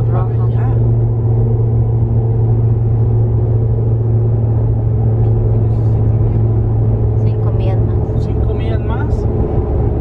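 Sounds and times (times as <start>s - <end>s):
engine and road noise in cabin: 0.0s - 10.0s.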